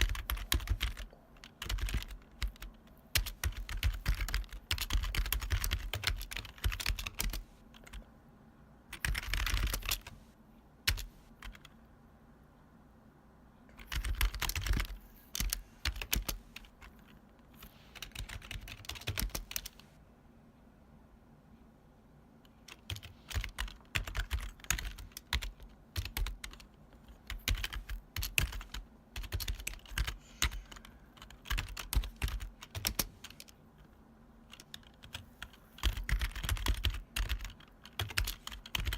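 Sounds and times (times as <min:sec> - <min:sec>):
clacky keyboard typing: 0:00.0 - 0:08.0, 0:08.9 - 0:10.2, 0:10.8 - 0:11.8, 0:13.7 - 0:19.8, 0:22.5 - 0:38.9.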